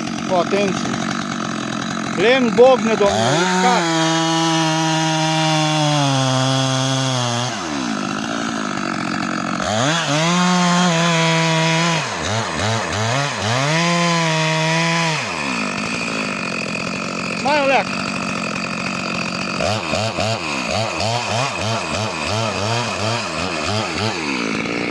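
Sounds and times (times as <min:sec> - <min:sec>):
chainsaw cutting a log: 0:00.0 - 0:24.9.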